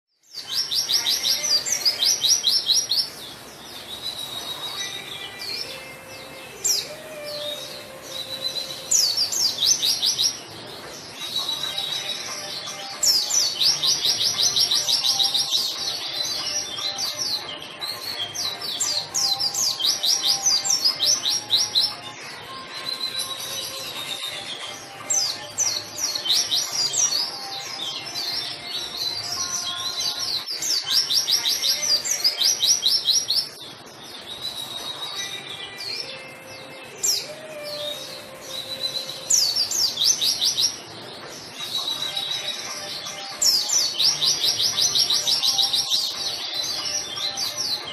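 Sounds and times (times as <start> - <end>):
bird singing chirping trills: 0.1 - 47.9.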